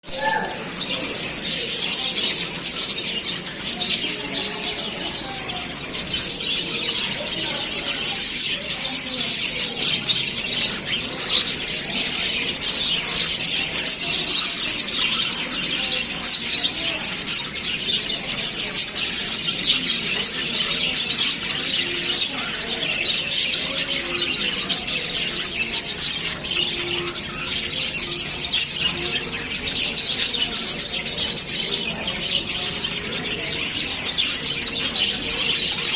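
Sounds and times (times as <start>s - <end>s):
lovebirds chattering and squawking: 0.0s - 35.9s.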